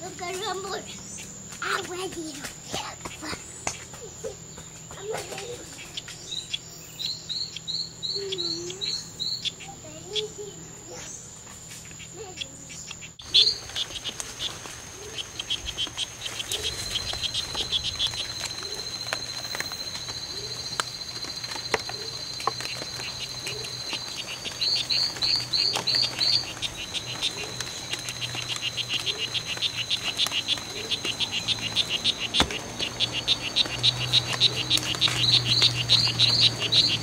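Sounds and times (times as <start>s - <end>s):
frogs chirping rapidly: 0.0s - 37.0s
steady high-pitched buzz: 0.0s - 37.0s.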